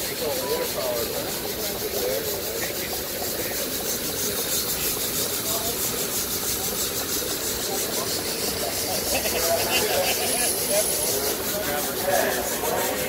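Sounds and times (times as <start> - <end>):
faint voices: 0.0 - 13.0
steam engine hissing and pulsing: 0.0 - 13.0.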